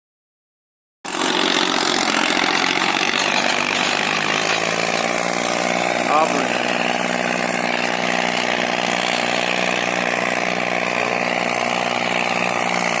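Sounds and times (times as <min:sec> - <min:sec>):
tractor diesel engine running: 0:01.1 - 0:13.0.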